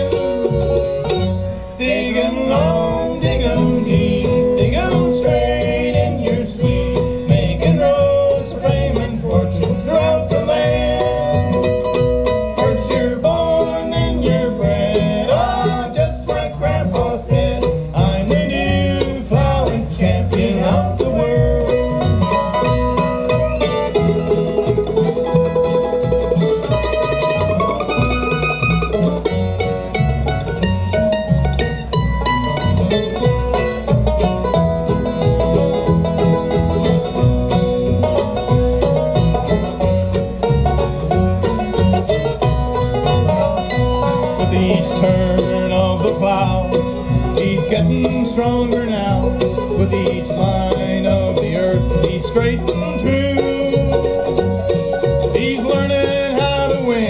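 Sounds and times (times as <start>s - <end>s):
bluegrass band playing: 0.0s - 57.0s.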